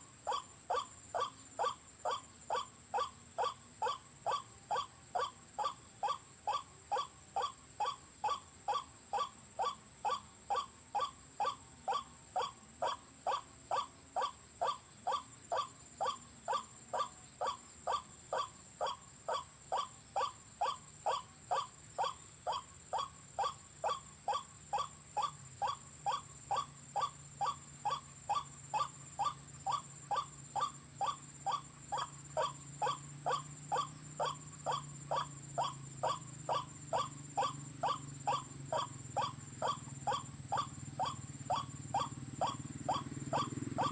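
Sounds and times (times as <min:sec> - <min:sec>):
recorded waterhen call: 0:00.0 - 0:43.9.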